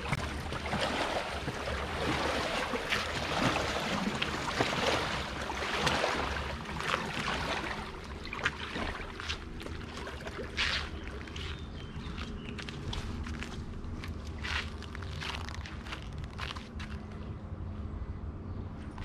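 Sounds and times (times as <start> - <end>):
small waves lapping: 0.0 - 17.2.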